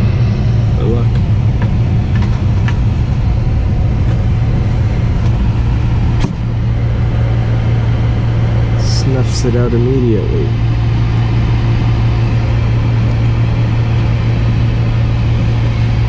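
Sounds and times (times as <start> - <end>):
furnace motor hum: 0.0 - 16.0.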